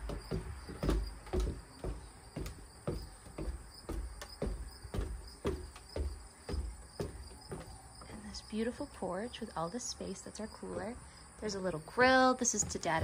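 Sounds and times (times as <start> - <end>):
footsteps on a porch: 0.0 - 13.0.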